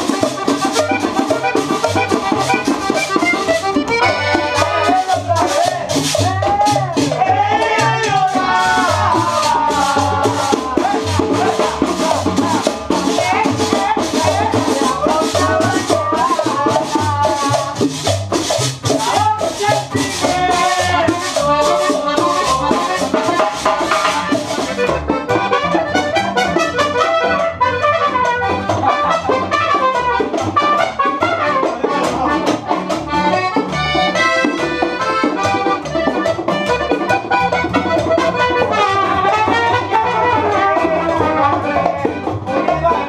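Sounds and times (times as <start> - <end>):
accordion melody: 0.0 - 43.0
acoustic guitar strumming: 0.0 - 43.0
hand percussion: 0.0 - 43.0
high rattling percussion: 0.0 - 43.0
plucked upright bass: 0.0 - 43.0.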